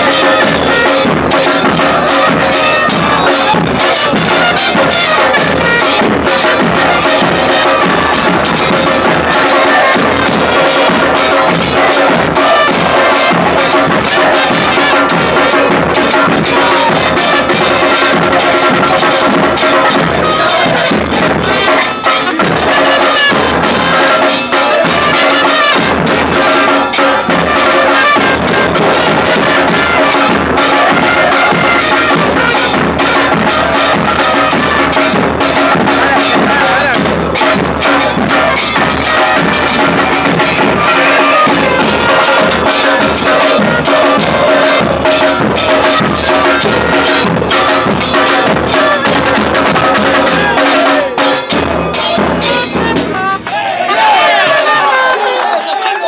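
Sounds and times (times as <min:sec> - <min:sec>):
crowd singing chants: 0:00.0 - 0:56.0
pounding bass drums and percussion: 0:00.0 - 0:56.0.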